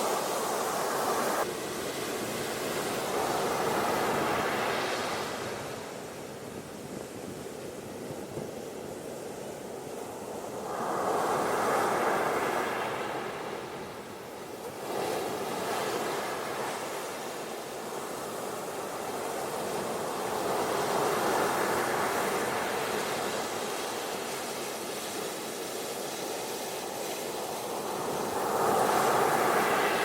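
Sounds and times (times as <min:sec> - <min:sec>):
ocean surf washing onto beach: 0:00.0 - 0:30.0.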